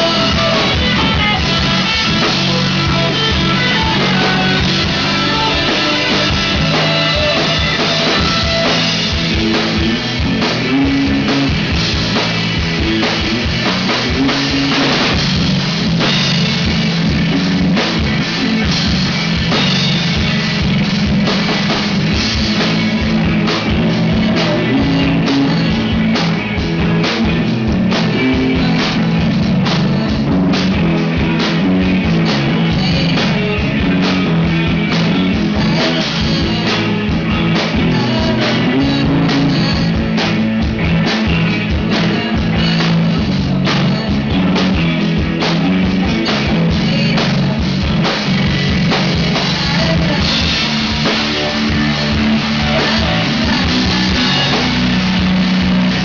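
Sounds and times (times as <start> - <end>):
drum kit beat: 0.0 - 56.0
electric bass: 0.0 - 56.0
electric guitar: 0.0 - 56.0.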